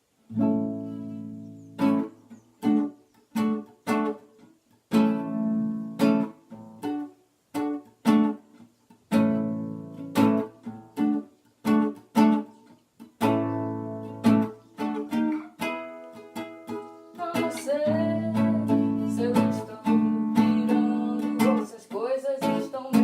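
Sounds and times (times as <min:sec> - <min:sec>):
acoustic guitar strumming chords: 0:00.3 - 0:23.0.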